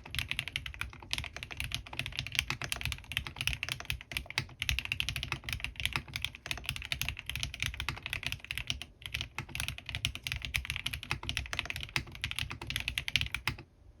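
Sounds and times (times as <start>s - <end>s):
mechanical keyboard typing: 0.0s - 13.7s.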